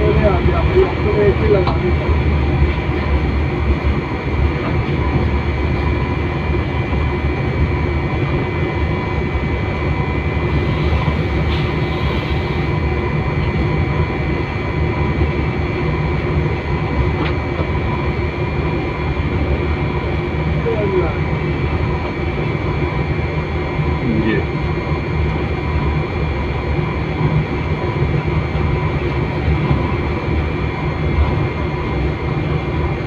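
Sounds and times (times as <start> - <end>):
constant whine: 0.0 - 33.0
diesel locomotive engine drone: 0.0 - 33.0.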